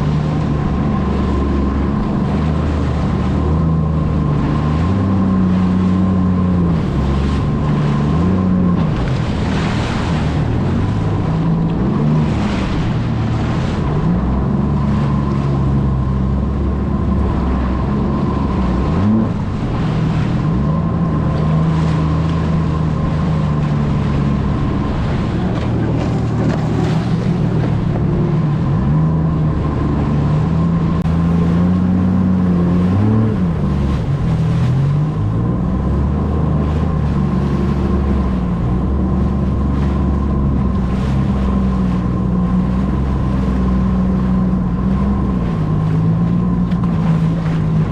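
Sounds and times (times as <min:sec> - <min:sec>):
jet ski engine revving: 0:00.0 - 0:47.9
rush of wind and water: 0:00.0 - 0:47.9.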